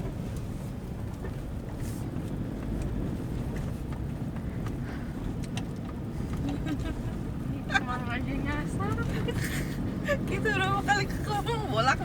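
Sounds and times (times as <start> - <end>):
car cabin road and engine drone: 0.0 - 12.0.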